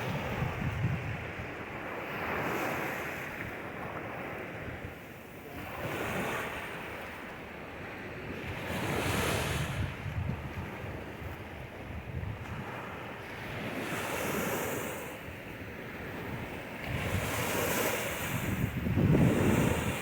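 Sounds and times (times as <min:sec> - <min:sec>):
ocean waves washing in: 0:00.0 - 0:20.0
wind rumbling on microphone: 0:00.0 - 0:20.0.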